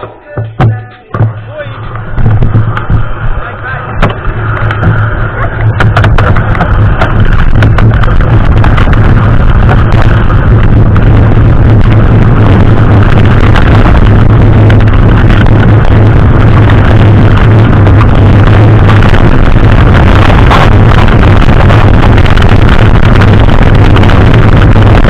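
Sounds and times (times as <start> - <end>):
mountain bike rumble: 0.0 - 25.0
sharp clicks and rattles: 0.0 - 25.0
steady low drone: 0.0 - 25.0
wind buffeting microphone: 0.0 - 25.0.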